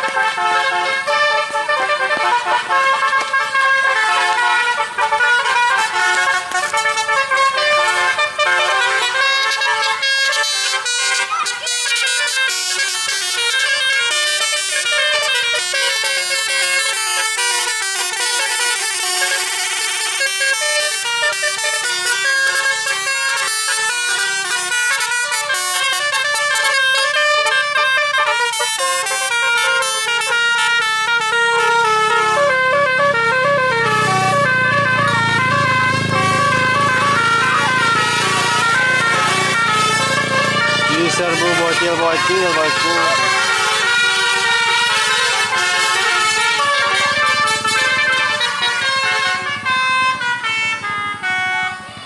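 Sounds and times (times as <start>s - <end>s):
air horns playing a tune: 0.0s - 52.0s.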